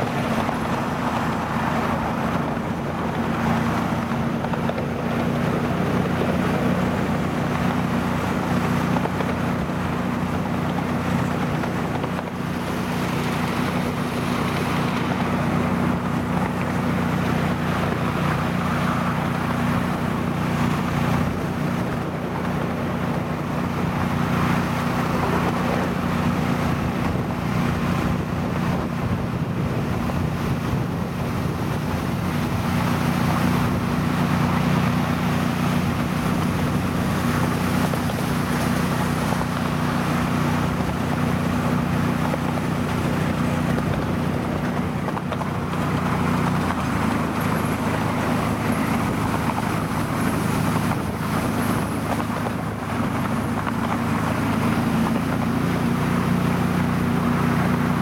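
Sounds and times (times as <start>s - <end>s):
diesel locomotive engine: 0.0s - 58.0s
wheels rolling on track: 0.0s - 58.0s
wind on microphone: 0.0s - 58.0s.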